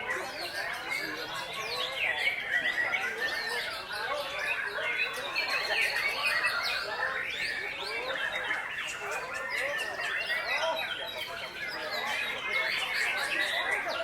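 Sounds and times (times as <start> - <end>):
chorus of songbirds singing: 0.0 - 14.0.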